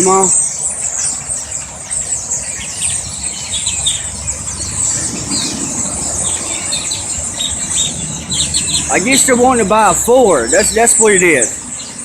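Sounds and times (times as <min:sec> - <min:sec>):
flock of birds chattering: 0:00.0 - 0:12.0
low engine rumble: 0:00.0 - 0:12.0.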